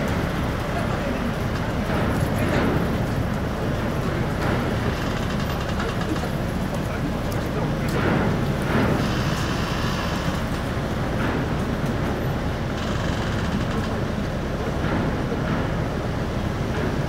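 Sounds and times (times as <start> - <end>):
ferry engines rumbling: 0.0 - 17.0.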